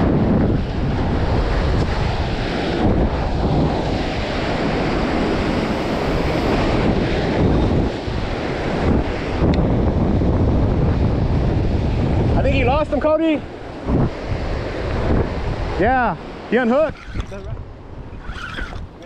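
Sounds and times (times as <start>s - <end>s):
surf washing over rocks: 0.0s - 19.0s
wind buffeting microphone: 0.0s - 19.0s.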